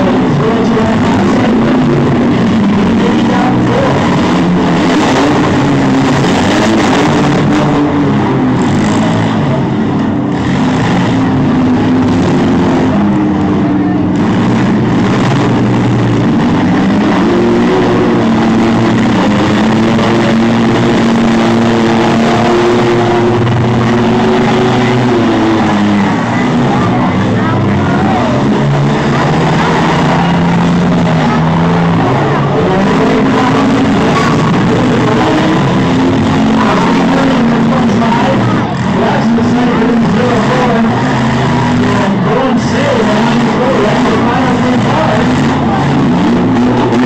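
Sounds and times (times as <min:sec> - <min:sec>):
engines running and revving: 0:00.0 - 0:47.0.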